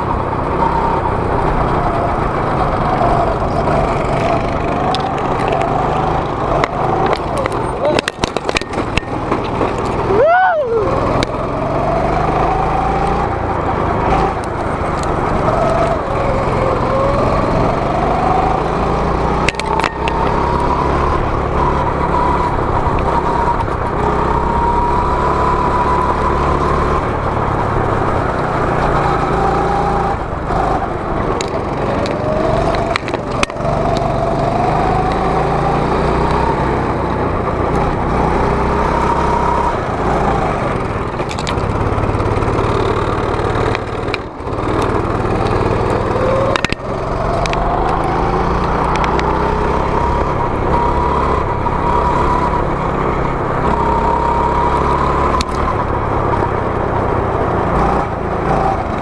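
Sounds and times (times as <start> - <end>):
go-kart engine running hard: 0.0 - 59.0.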